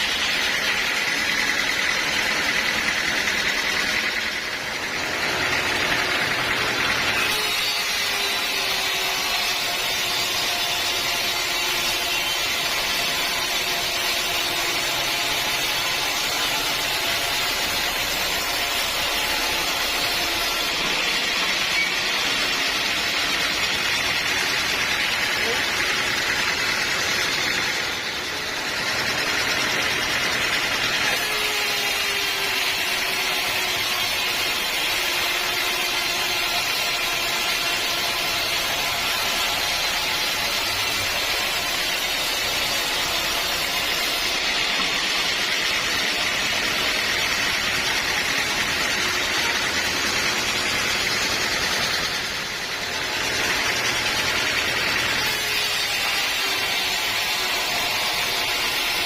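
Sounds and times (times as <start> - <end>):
bandsaw sawmill cutting wood: 0.0 - 59.0.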